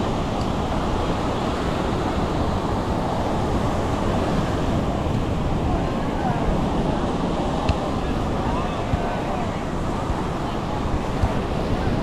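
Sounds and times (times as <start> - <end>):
ocean surf on beach: 0.0 - 12.0
wind on microphone: 0.0 - 12.0.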